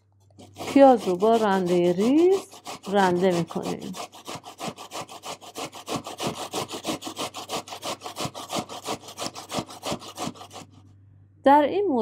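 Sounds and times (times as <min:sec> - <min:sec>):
onion grating on metal grater: 0:00.4 - 0:10.9.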